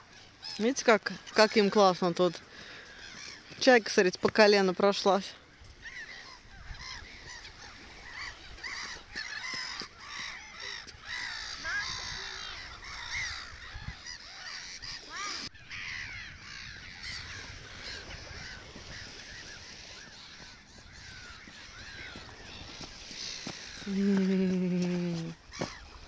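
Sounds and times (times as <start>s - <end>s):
gulls calling: 0.0s - 26.0s.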